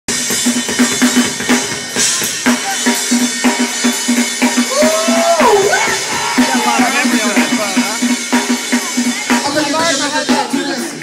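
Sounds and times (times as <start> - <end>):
funk band playing: 0.1 - 11.0.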